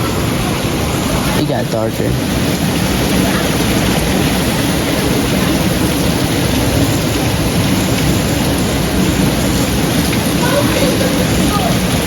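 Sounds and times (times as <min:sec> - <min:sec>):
heavy rain: 0:00.0 - 0:12.0
strong wind: 0:00.0 - 0:12.0.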